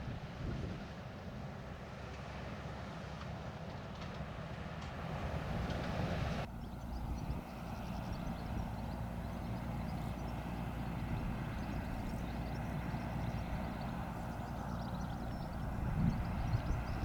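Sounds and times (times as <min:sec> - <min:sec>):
boat diesel engine rumble: 0:00.1 - 0:17.0.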